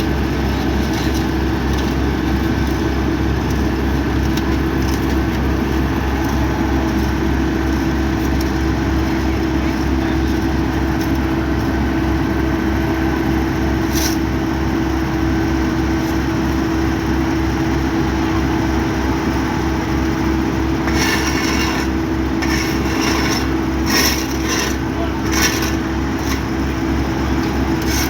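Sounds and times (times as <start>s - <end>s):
diesel machinery engine throb: 0.0s - 28.0s.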